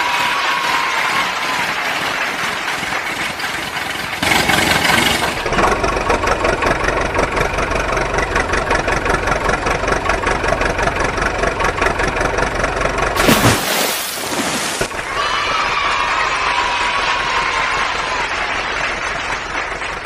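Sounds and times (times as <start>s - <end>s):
engine idling: 1.7s - 13.2s, 14.8s - 20.0s.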